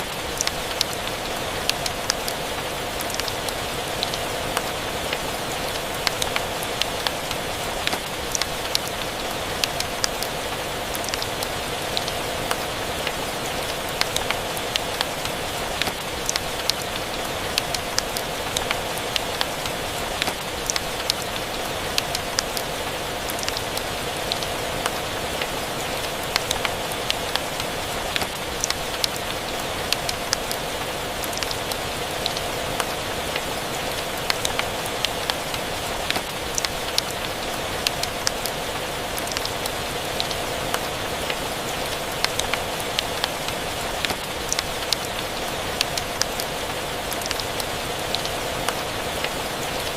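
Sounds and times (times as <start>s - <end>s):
rain ticks and pops: 0.0s - 49.9s
steady rain hiss: 0.0s - 49.9s.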